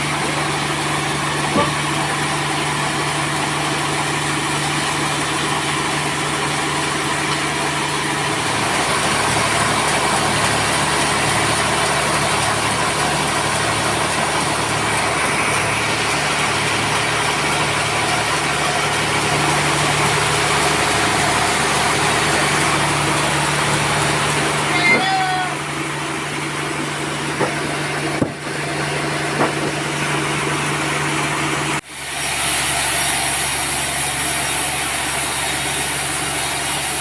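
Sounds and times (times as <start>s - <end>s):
sawmill machinery hum: 0.0s - 37.0s.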